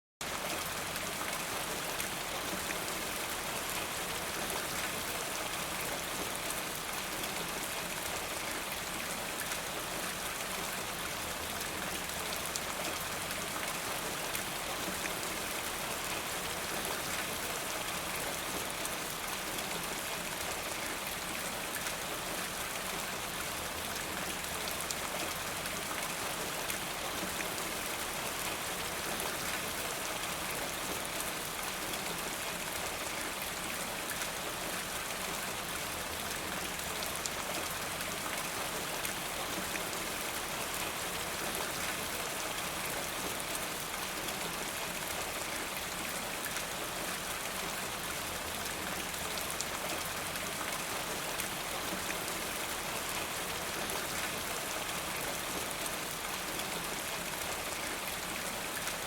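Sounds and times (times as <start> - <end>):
steady rain in a forest: 0.2 - 59.0.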